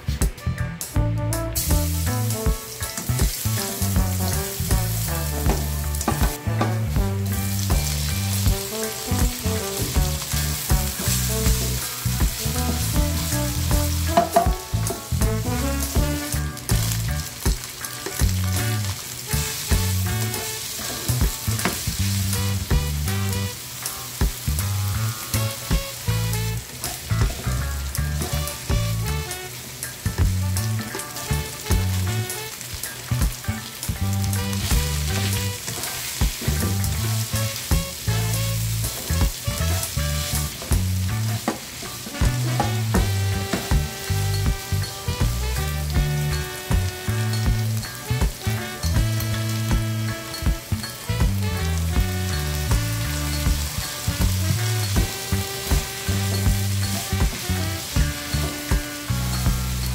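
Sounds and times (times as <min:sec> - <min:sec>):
background music with bass: 0:00.0 - 0:59.9
food sizzling in oil: 0:01.5 - 0:59.9.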